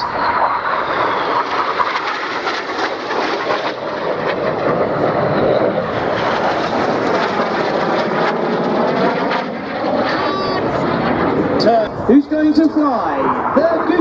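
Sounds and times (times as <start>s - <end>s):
jet aircraft passing low: 0.0s - 14.0s
loud steady jet noise: 0.0s - 14.0s.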